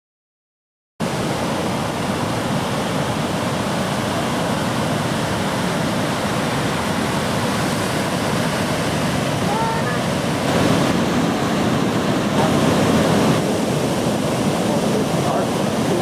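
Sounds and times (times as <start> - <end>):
ocean surf breaking: 1.0 - 16.0.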